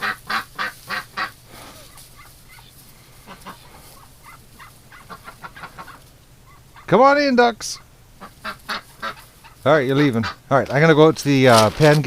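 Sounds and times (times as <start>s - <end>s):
waterfowl calling: 0.0s - 7.0s, 7.6s - 10.5s.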